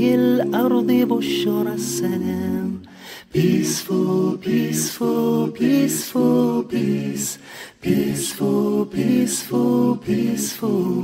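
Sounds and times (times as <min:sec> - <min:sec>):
person singing a cappella: 0:00.0 - 0:11.0.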